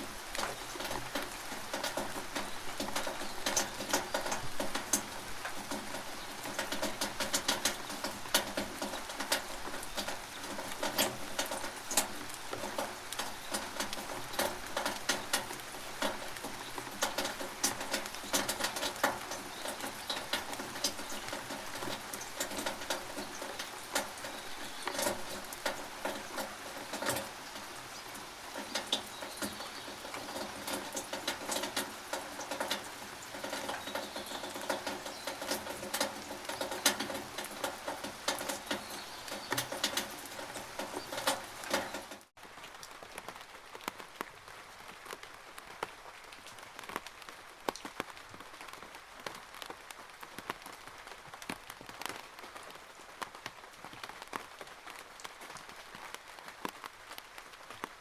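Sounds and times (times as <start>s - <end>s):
rain dripping in gutter: 0.0s - 58.0s.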